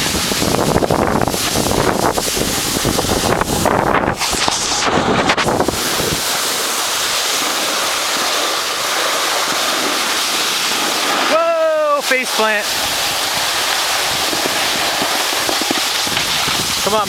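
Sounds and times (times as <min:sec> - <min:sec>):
wind buffeting microphone: 0:00.0 - 0:11.3, 0:12.6 - 0:17.0
steady hiss: 0:00.0 - 0:17.0.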